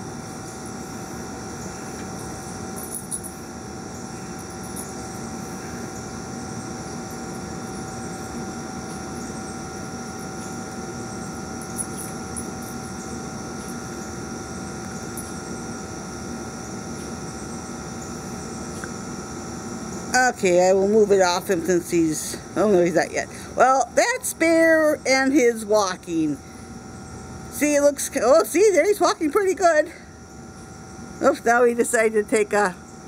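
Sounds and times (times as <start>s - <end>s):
faint whining tones: 0.0s - 33.0s
steady mechanical hum: 0.0s - 33.0s.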